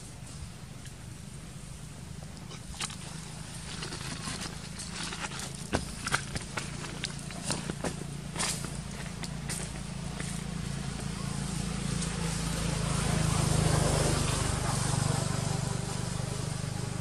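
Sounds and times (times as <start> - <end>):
passing vehicle engine rumble: 0.0 - 17.0.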